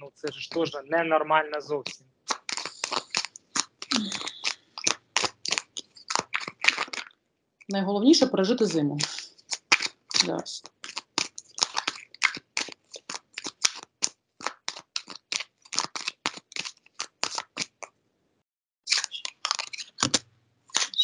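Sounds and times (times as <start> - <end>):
cards being shuffled: 1.6 - 7.1, 8.6 - 17.9, 18.9 - 21.0.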